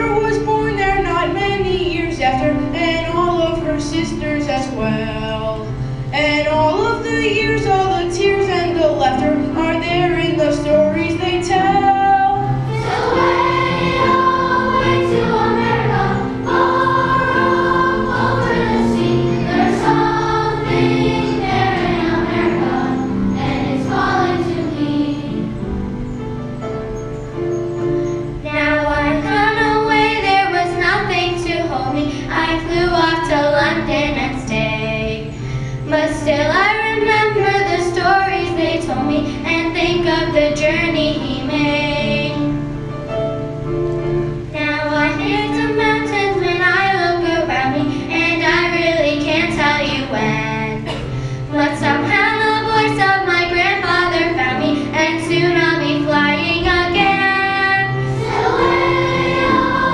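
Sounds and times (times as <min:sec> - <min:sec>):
music: 0:00.0 - 0:59.9
children's choir singing: 0:06.4 - 0:26.0, 0:28.3 - 0:42.6, 0:44.4 - 0:59.9.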